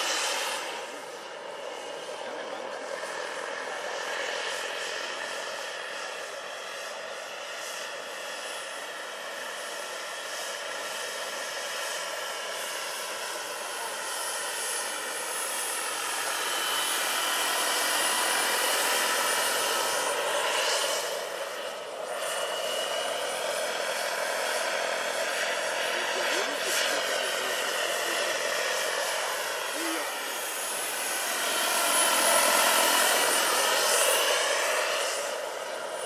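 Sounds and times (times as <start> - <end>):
helicopter rotor noise: 0.0 - 36.0
model helicopter turbine whining: 0.0 - 36.0.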